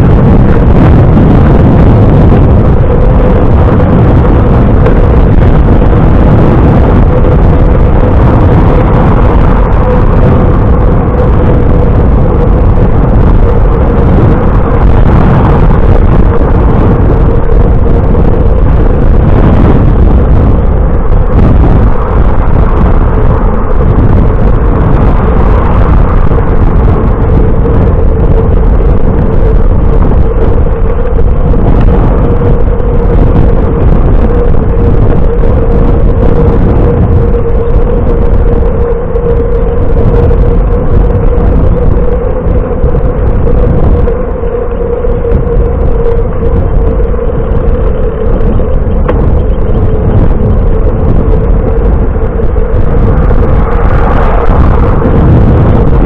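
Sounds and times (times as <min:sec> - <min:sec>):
constant whine: 0:00.0 - 0:56.0
wind rushing over microphone: 0:00.0 - 0:56.0.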